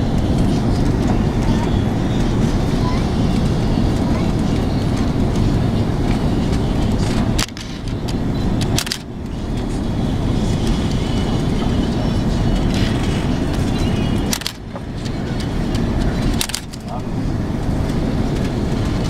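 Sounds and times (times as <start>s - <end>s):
airliner cabin engine roar: 0.0s - 19.0s.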